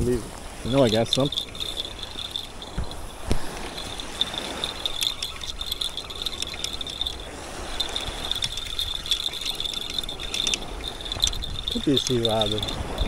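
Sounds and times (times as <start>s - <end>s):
fishing reel whirring click: 0.8s - 12.8s.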